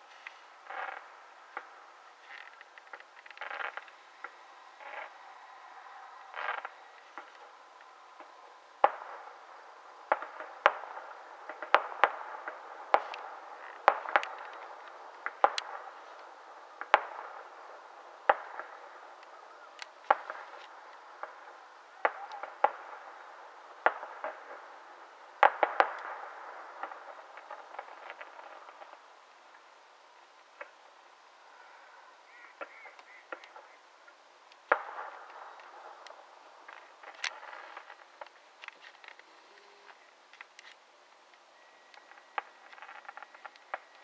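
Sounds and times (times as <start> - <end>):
fireworks bangs: 0.0 - 29.7, 32.3 - 40.8, 41.9 - 44.0
steady background hiss: 0.0 - 44.0.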